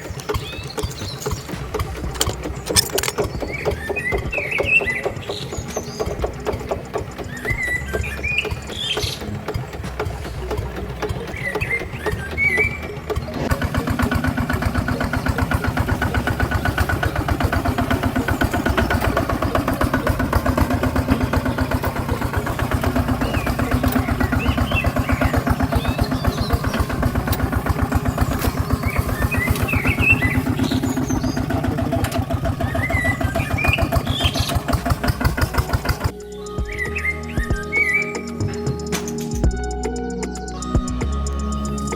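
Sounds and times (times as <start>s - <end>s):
small engine running: 0.0s - 36.4s.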